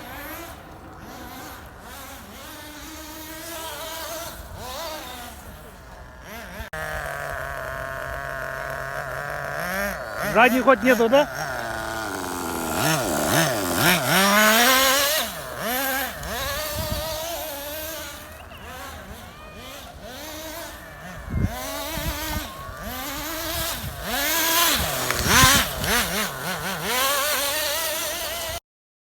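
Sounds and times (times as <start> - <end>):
car engine revving: 0.0 - 28.4.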